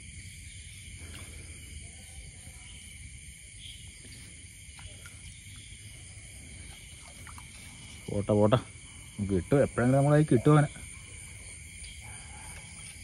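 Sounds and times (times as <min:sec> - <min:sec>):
crickets and insects chirring: 0:00.0 - 0:13.0.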